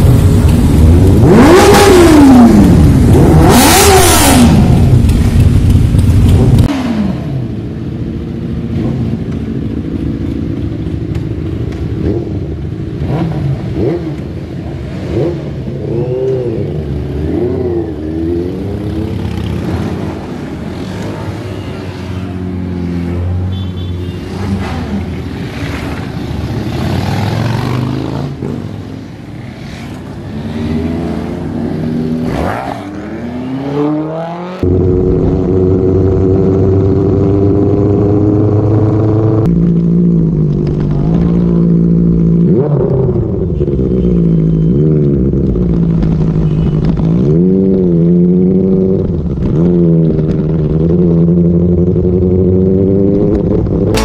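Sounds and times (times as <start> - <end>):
motorcycle engines idling and revving: 0.0 - 54.0
motorcycles cruising drone: 0.0 - 54.0.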